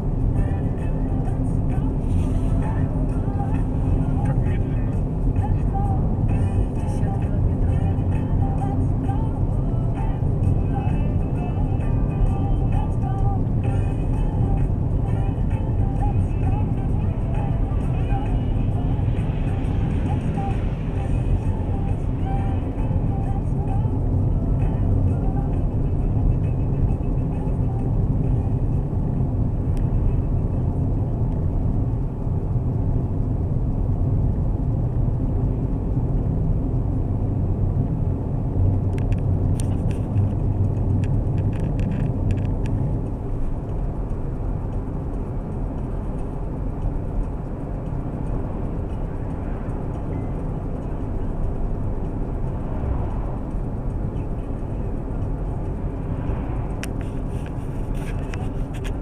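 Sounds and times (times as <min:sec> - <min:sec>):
low vehicle rumble: 0:00.0 - 0:59.0.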